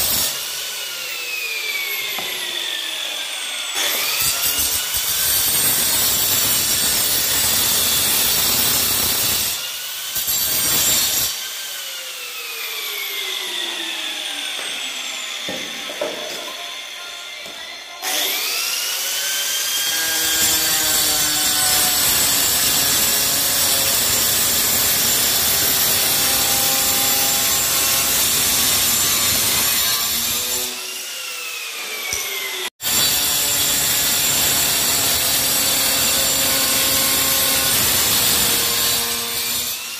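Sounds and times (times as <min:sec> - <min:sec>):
angle grinder cutting tile: 0:00.0 - 0:39.9.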